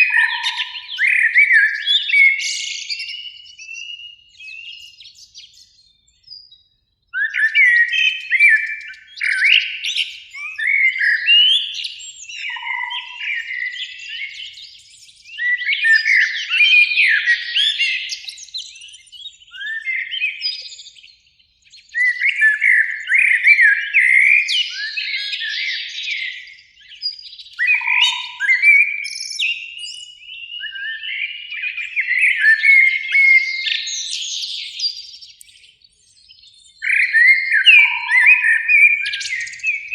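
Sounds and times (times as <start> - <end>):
blackbirds singing: 0.0 - 39.9.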